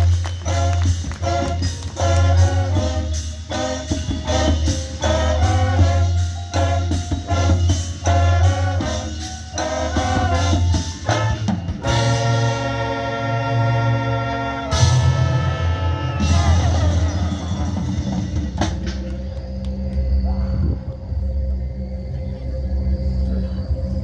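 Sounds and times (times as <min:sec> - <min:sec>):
marching band playing: 0:00.0 - 0:19.4.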